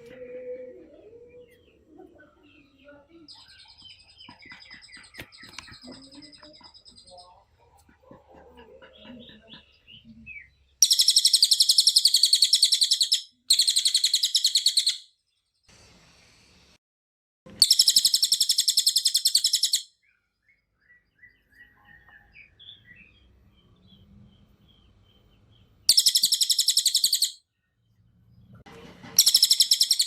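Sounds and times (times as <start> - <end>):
faint bird chirps: 0.0 - 15.8, 17.6 - 28.5, 29.2 - 30.0.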